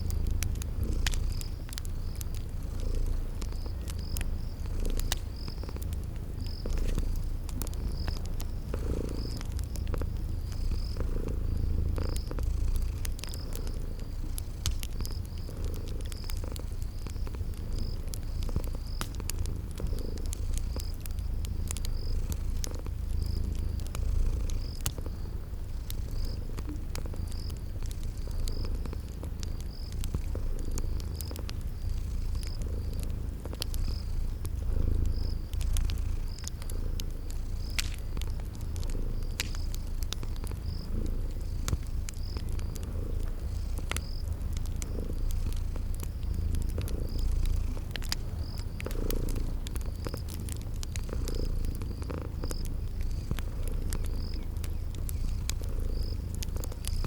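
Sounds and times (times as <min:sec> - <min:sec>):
cat purring: 0:00.0 - 0:57.0
cricket chirping: 0:00.0 - 0:57.0
wood fire crackling: 0:00.0 - 0:57.0.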